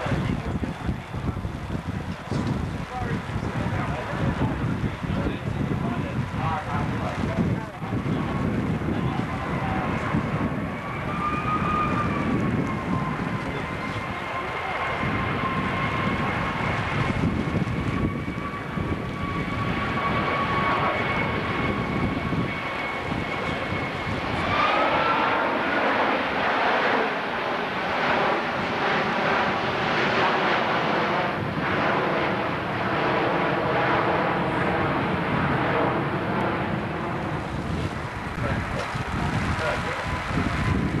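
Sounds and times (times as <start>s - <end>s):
jet engines rumbling and whining: 0.0s - 41.0s.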